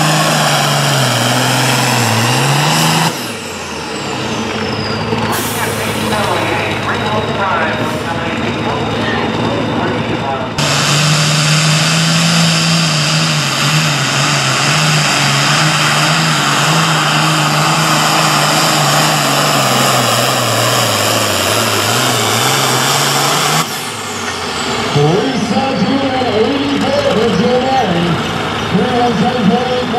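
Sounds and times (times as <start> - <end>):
tractor diesel engine running flat out: 0.0 - 29.9.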